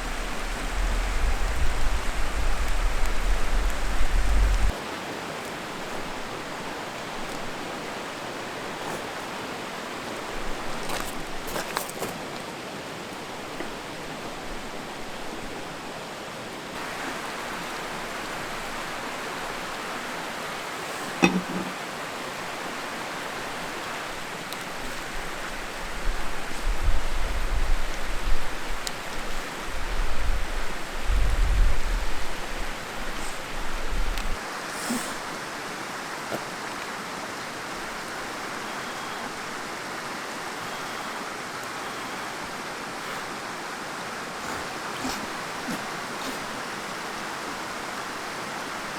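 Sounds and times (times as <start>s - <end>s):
mountain stream rushing: 0.0s - 48.9s.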